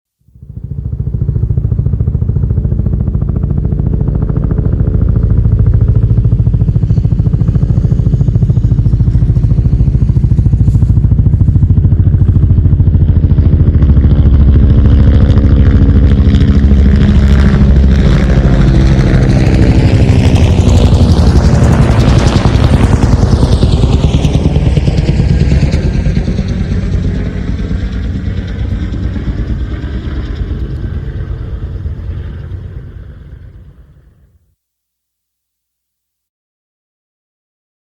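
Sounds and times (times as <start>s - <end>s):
low engine drone: 0.3s - 34.3s
helicopter rotor chop: 0.4s - 34.2s.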